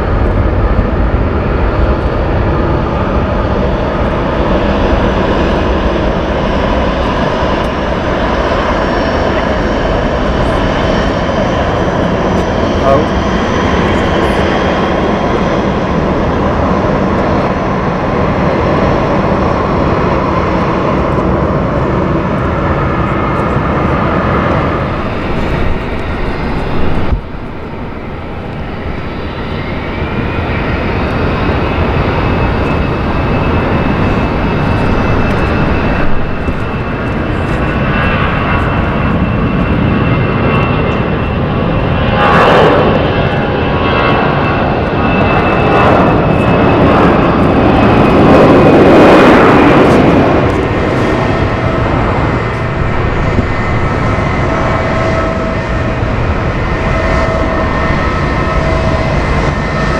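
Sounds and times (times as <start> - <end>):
jet engines at takeoff power: 0.0 - 59.9
jet engines climbing: 0.0 - 59.9.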